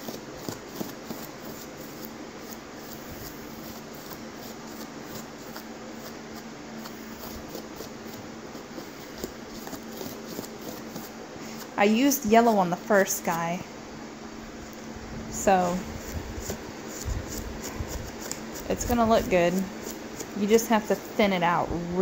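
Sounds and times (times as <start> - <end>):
sponge brush scuffing on plastic: 0.0 - 13.5, 15.4 - 21.4
electric fan humming: 0.0 - 22.0
faint constant tone: 0.0 - 22.0.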